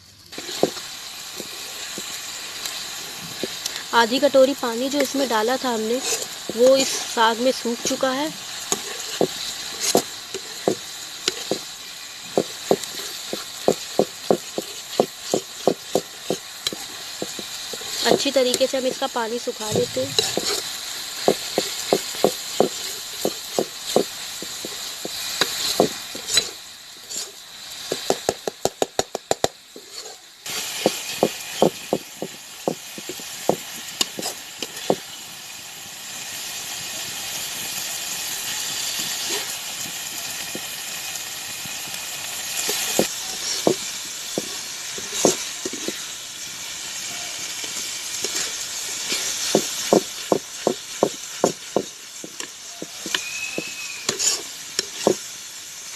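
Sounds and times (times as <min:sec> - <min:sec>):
greens sizzling in a pan: 0:00.0 - 0:55.9.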